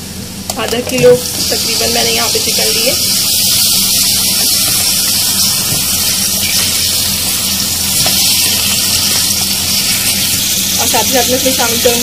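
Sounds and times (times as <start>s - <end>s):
chicken and onion sizzling in oil: 0.9s - 12.0s
spatula stirring: 1.2s - 11.3s.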